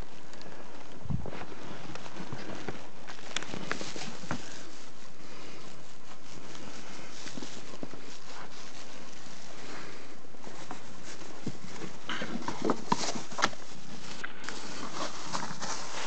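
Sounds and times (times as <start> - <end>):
packaging rustling: 0.0 - 16.0
steady hiss: 0.0 - 16.0.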